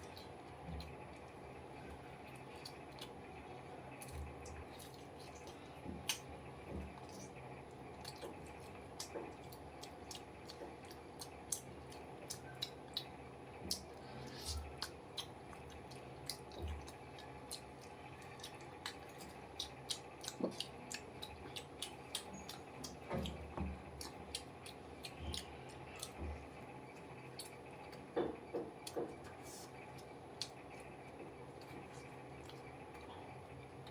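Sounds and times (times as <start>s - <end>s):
person chewing food: 0.0s - 3.3s, 3.9s - 33.9s.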